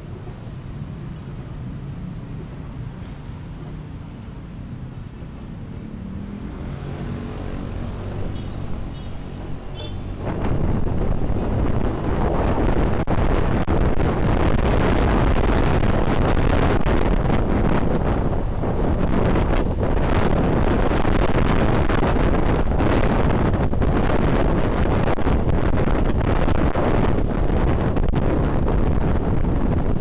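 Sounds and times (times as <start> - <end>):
traffic: 0.0 - 30.0
wind noise on microphone: 0.0 - 30.0.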